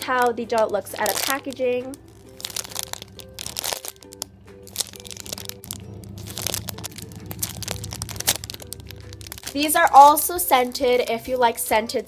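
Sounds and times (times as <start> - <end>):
plastic wrapping crinkling: 0.0 - 11.7
soft background music: 0.0 - 12.0.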